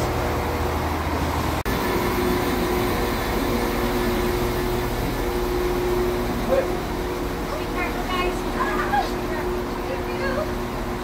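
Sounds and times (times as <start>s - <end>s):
train engine humming: 0.0s - 11.0s.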